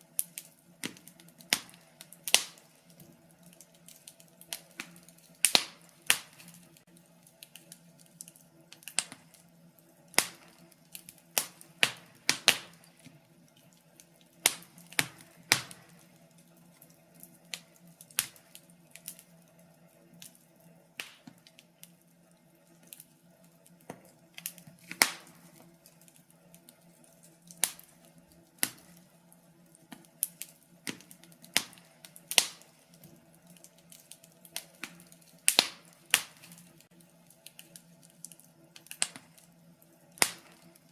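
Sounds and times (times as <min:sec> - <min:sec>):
faint steady hum: 0:00.0 - 0:40.9
fire crackling and popping: 0:00.0 - 0:40.9.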